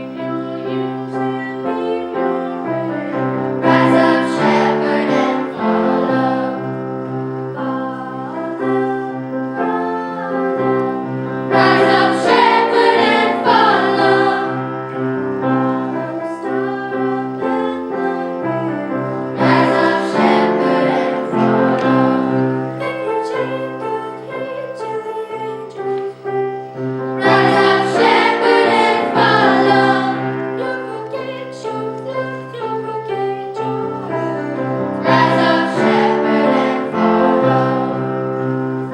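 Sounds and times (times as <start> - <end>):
choir singing: 0.0 - 38.9
piano accompaniment: 0.0 - 38.9.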